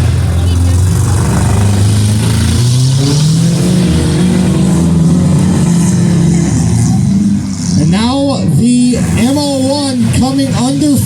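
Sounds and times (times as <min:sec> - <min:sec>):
race car engines running hard: 0:00.0 - 0:11.0.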